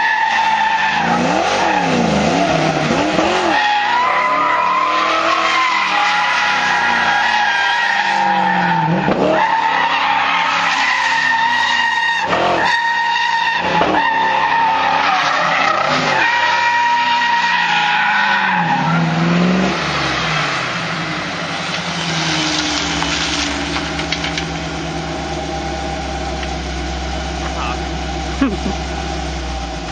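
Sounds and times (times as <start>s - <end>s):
tyres screeching: 0.0s - 25.7s
car engine revving: 0.0s - 29.9s.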